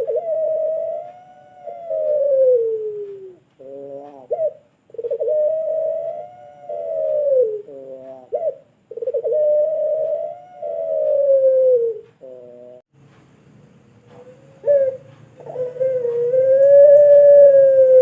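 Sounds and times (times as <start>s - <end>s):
dove cooing: 0.0s - 12.8s, 14.1s - 18.0s.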